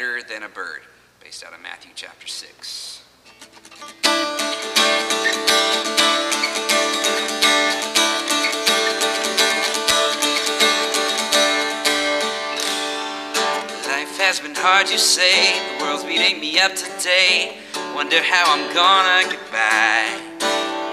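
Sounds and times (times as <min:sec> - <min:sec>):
acoustic guitar strumming: 0:03.3 - 0:20.9.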